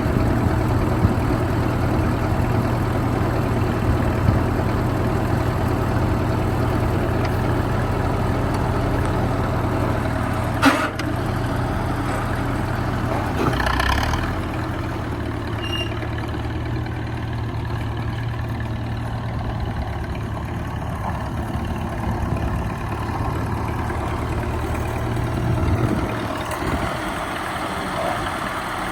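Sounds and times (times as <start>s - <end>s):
tractor engine idling: 0.0s - 28.9s.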